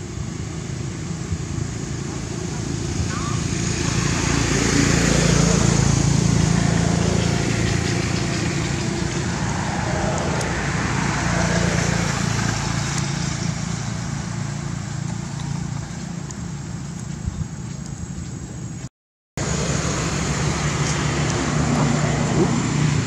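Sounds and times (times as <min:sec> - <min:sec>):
motor engine humming: 0:00.0 - 0:23.0.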